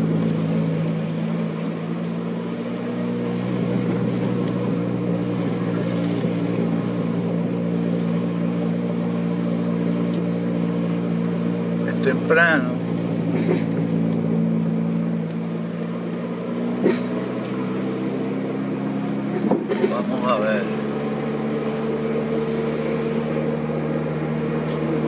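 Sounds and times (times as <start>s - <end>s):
car engine running: 0.0s - 25.0s
road noise: 0.0s - 25.0s.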